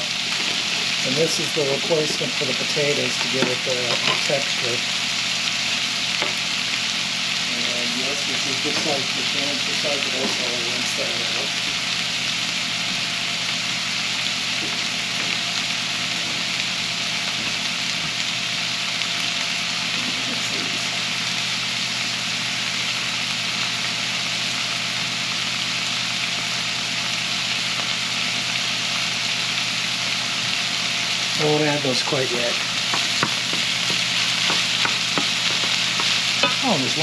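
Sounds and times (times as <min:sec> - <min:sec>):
food sizzling in a skillet: 0:00.0 - 0:37.0.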